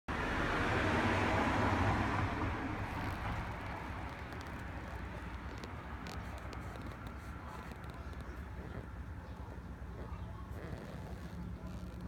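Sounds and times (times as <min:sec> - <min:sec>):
passing vehicle road noise: 0:00.1 - 0:12.0.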